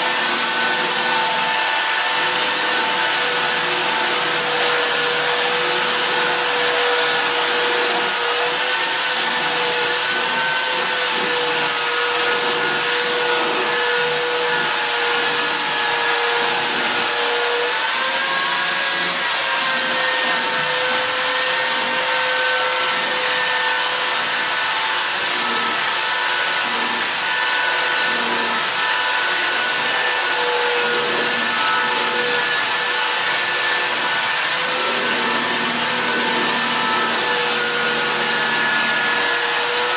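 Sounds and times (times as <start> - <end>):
electric sander on wood: 0.0 - 39.9.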